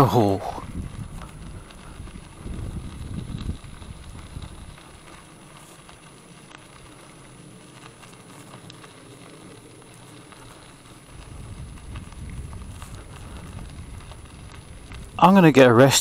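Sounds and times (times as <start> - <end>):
tyres crunching on gravel: 0.0 - 16.0
wind buffeting microphone: 0.0 - 16.0
small clicks: 1.0 - 15.1.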